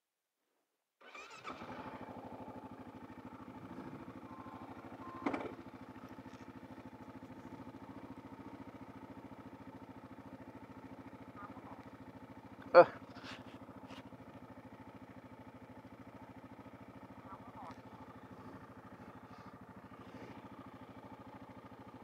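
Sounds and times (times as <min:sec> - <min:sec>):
motorcycle engine idling: 0:01.0 - 0:22.0.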